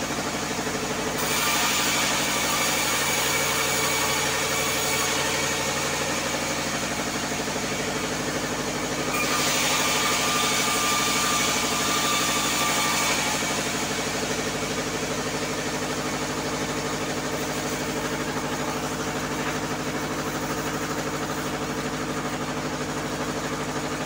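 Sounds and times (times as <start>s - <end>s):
band sawmill drone: 0.0s - 24.0s
saw blade whine in wood: 0.0s - 24.0s.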